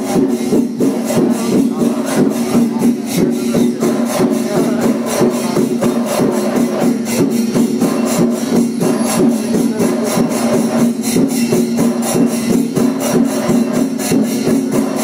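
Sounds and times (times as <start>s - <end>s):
held pipe notes: 0.0s - 15.0s
rapid drumming: 0.0s - 15.0s.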